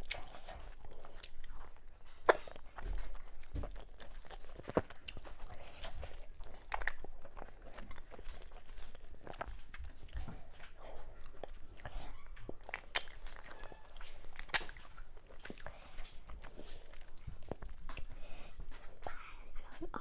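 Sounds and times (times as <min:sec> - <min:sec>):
sharp crunches and clicks: 0:00.0 - 0:18.1
wet chewing and biting: 0:00.0 - 0:19.8.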